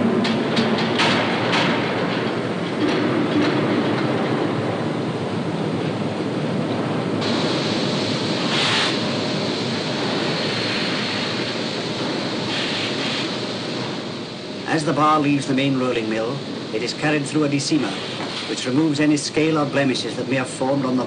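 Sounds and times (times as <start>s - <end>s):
rolling mill industrial noise: 0.0s - 21.0s.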